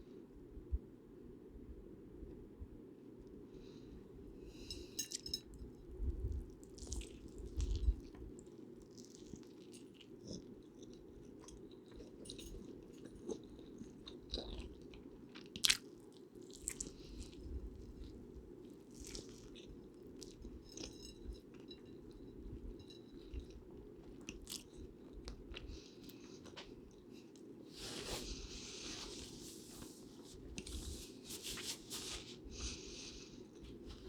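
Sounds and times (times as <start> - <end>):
person chewing food: 6.3 - 34.0.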